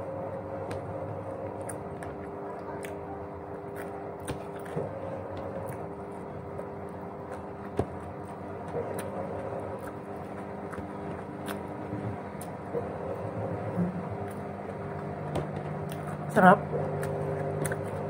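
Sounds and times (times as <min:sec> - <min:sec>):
low mechanical hum: 0:00.0 - 0:18.0
eating clicks and crunches: 0:00.6 - 0:13.0, 0:14.2 - 0:18.0.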